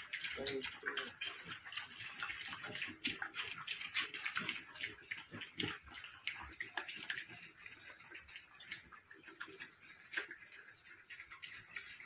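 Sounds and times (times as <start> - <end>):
piglets chewing and smacking: 0.0 - 12.0.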